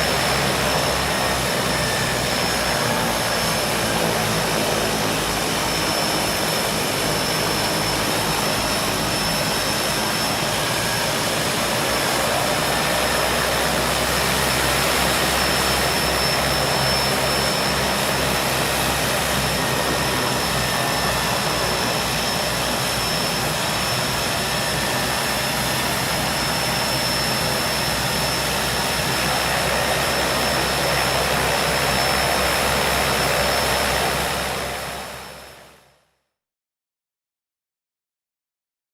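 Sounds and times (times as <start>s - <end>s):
high turbine whine: 0.0s - 35.8s
turboprop engines running: 0.0s - 35.8s.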